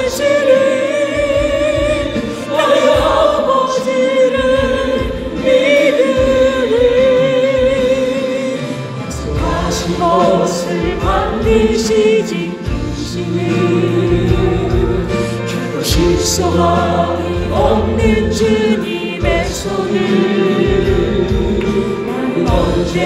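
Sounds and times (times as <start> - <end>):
steady musical accompaniment: 0.0 - 23.0
voices singing gospel song: 0.0 - 23.0.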